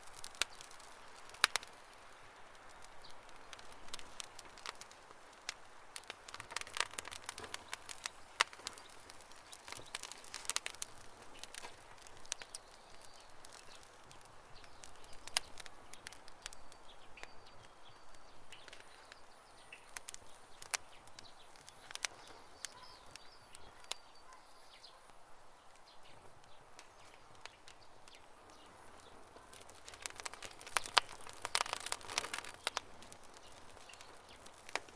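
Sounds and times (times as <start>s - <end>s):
campfire crackling: 0.0s - 34.9s
soft hiss of fire: 0.0s - 34.9s.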